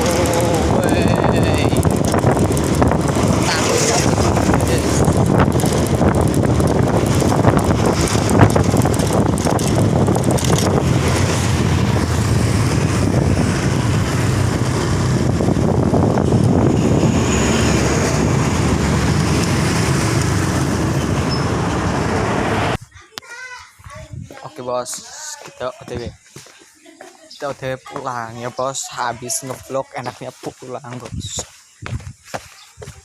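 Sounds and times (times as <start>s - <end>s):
wind buffeting microphone: 0.0s - 22.9s, 23.7s - 26.5s, 27.3s - 33.0s
road traffic noise: 0.0s - 33.0s.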